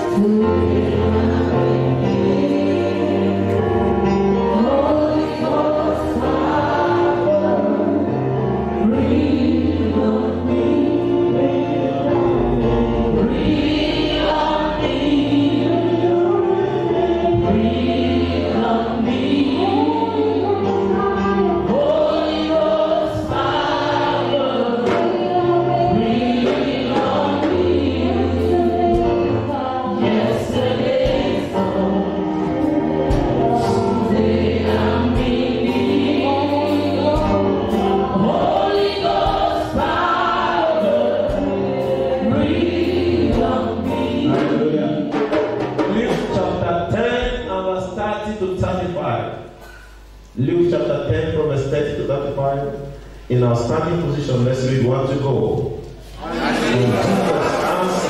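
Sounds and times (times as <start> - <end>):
group singing gospel song: 0.0 - 50.6, 53.0 - 58.0
instrumental accompaniment: 0.0 - 58.0.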